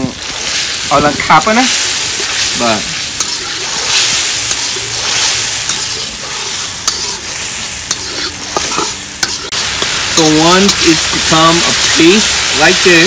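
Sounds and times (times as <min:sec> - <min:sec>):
paste sizzling in a wok: 0:00.0 - 0:13.0.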